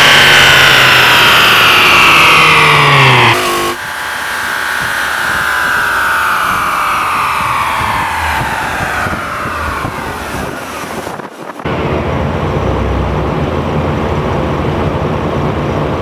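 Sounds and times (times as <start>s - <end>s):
engine winding down: 0.0s - 16.0s
steady low engine note: 0.0s - 16.0s.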